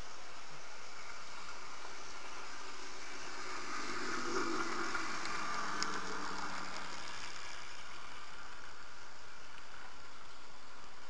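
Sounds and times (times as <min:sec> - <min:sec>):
model train motor hum: 0:00.0 - 0:11.0
steady hiss: 0:00.0 - 0:11.0
wheels rumbling on rails: 0:00.2 - 0:09.9.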